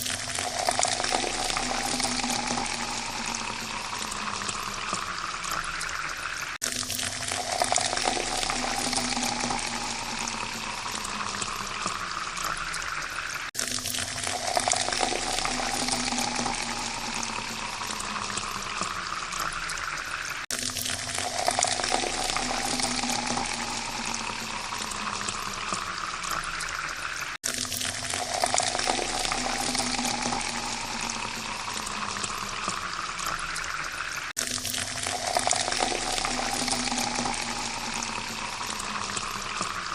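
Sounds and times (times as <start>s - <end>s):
water pouring into a glass: 0.0s - 39.9s.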